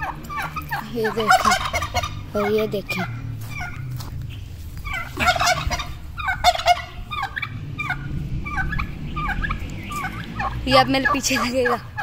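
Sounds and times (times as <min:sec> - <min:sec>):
turkeys gobbling: 0:00.0 - 0:12.0.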